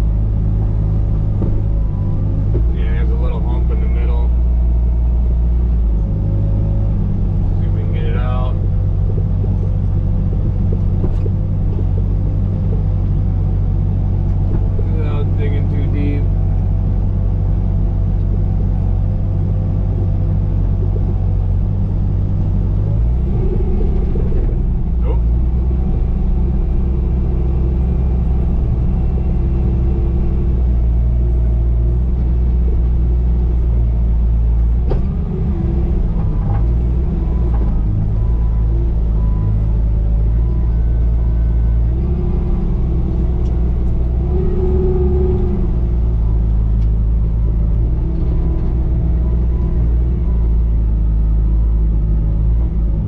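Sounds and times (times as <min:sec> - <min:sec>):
loader diesel engine running: 0:00.0 - 0:53.0.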